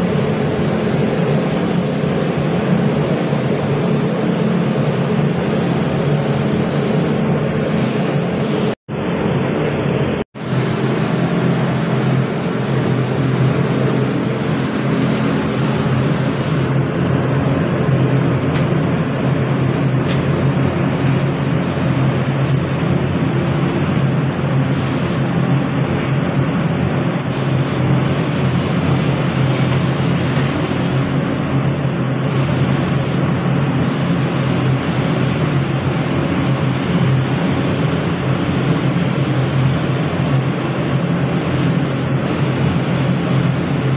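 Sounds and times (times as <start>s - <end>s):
spray gun hissing: 0.0s - 7.2s, 7.8s - 9.6s, 10.3s - 17.8s, 18.4s - 43.9s
ventilation fans rushing: 0.0s - 43.9s.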